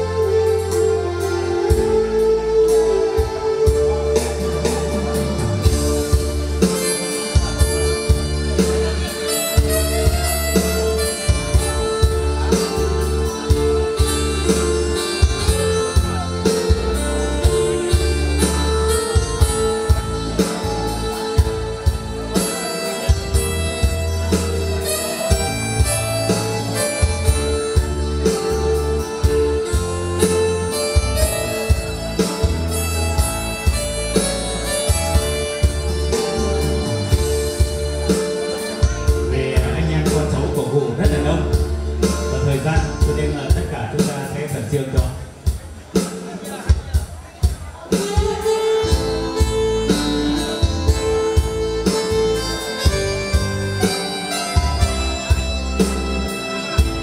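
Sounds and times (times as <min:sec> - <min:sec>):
instrumental music with steady beat: 0:00.0 - 0:57.0.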